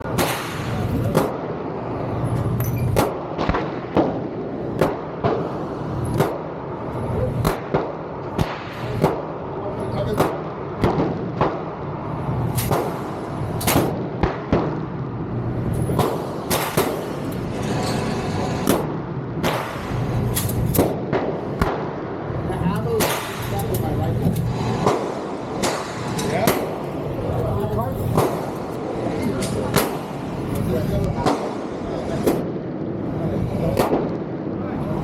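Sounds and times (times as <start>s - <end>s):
gunshots: 0.0s - 2.0s, 2.9s - 15.2s, 15.8s - 17.3s, 18.4s - 34.6s.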